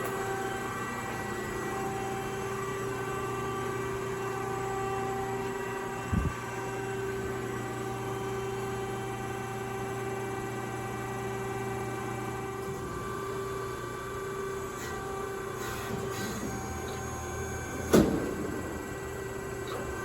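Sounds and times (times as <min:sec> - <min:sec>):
press pump and motor humming: 0:00.0 - 0:20.0.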